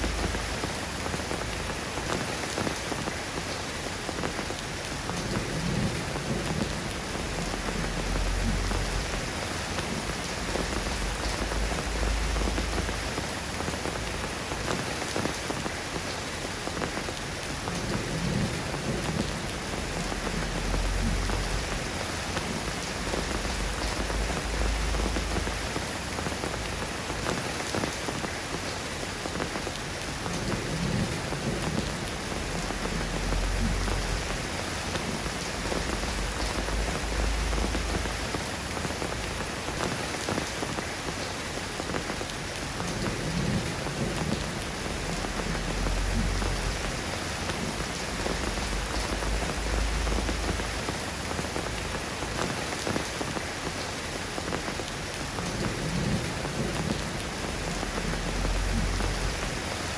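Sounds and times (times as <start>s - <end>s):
steady rain falling: 0.0s - 59.9s
thunder rumbles: 4.4s - 15.7s, 16.7s - 28.6s, 29.3s - 41.2s, 41.8s - 53.8s, 54.4s - 59.9s.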